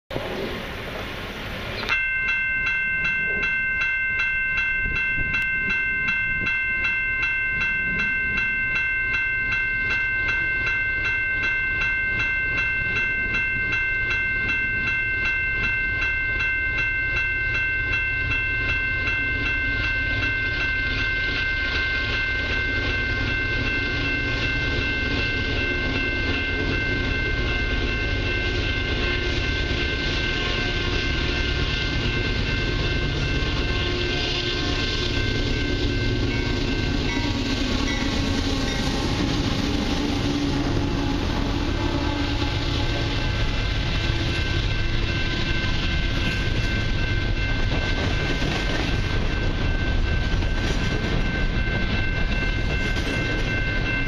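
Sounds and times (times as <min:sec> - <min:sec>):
diesel locomotive rumble: 0:00.1 - 0:54.0
railway warning bell: 0:00.1 - 0:54.0.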